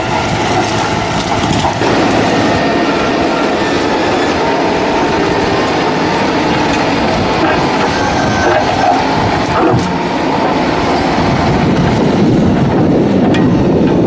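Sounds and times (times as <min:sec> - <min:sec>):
spiked rollers churning soil: 0:00.0 - 0:12.2
heavy machine engine under load: 0:00.0 - 0:14.0.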